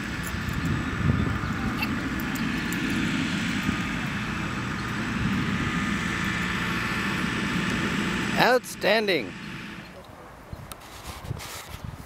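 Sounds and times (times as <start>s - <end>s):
outdoor background rumble: 0.0s - 11.3s.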